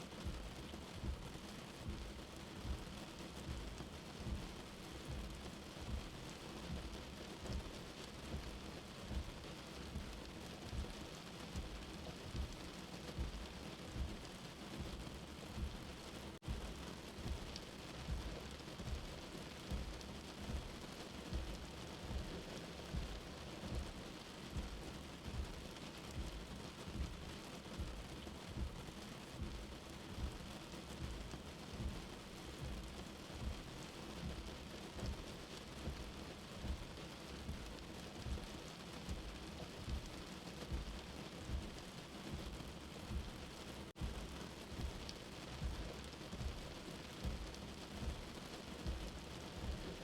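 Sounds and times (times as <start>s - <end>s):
steady rain: 0.0s - 50.0s
heartbeat thumping: 0.2s - 50.0s.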